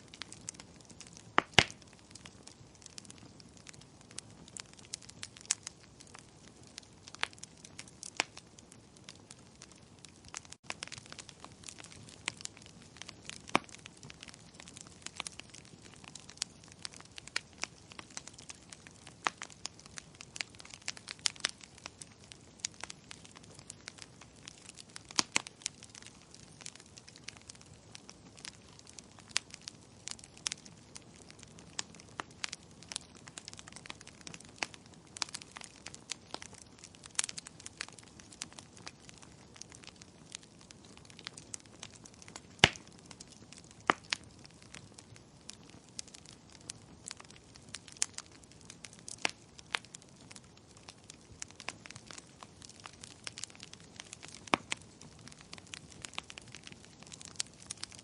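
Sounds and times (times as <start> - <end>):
burning wood popping and snapping: 0.1 - 58.0.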